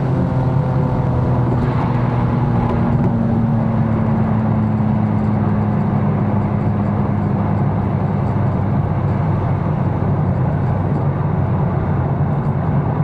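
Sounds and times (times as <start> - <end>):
car engine cruising drone: 0.0 - 13.0.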